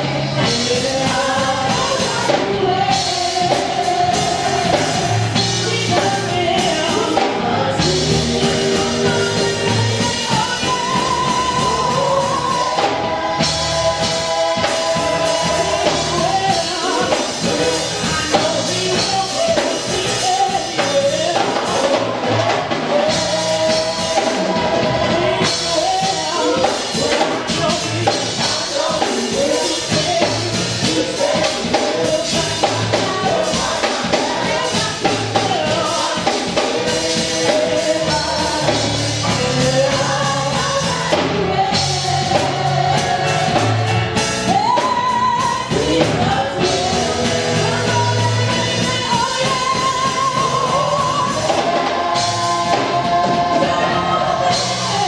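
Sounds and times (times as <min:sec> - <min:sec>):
band with drums: 0:00.0 - 0:55.0
group singing gospel: 0:00.0 - 0:55.0.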